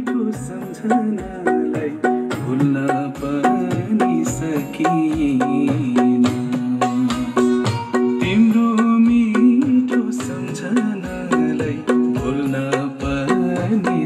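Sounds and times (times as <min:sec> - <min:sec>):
steady drum beat: 0:00.0 - 0:14.0.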